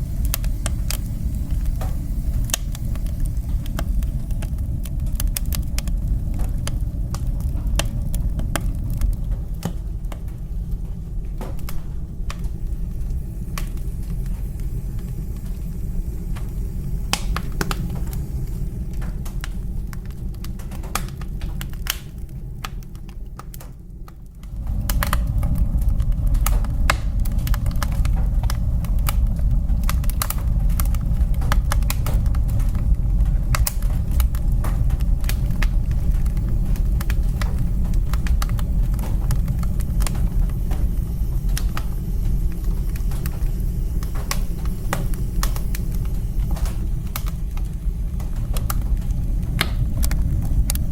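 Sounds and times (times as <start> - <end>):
low rumble: 0.0 - 50.9
wood fire crackling and popping: 0.0 - 50.9.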